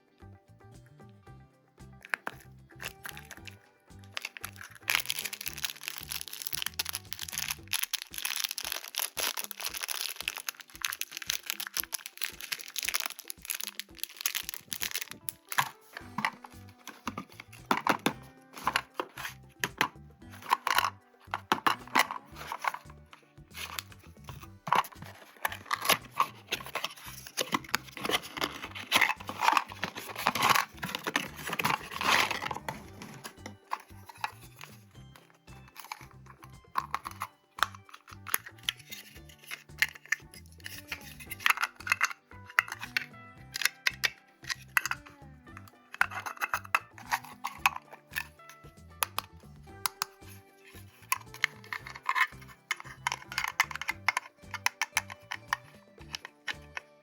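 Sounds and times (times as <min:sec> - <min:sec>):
packaging crinkling: 0:02.0 - 0:49.2, 0:49.9 - 0:56.8.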